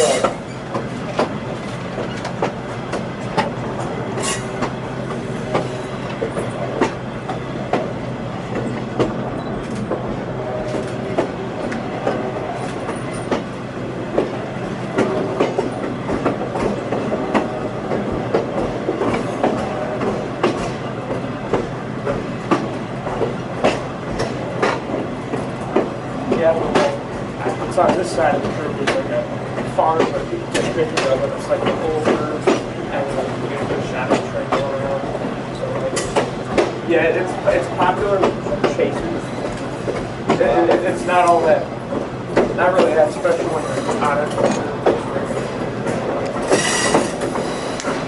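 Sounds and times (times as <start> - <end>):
railcar wheels rumbling: 0.0 - 48.0.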